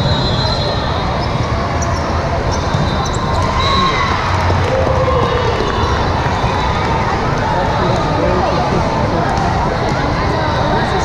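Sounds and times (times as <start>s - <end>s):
many overlapping voices and shouts: 0.0s - 11.0s.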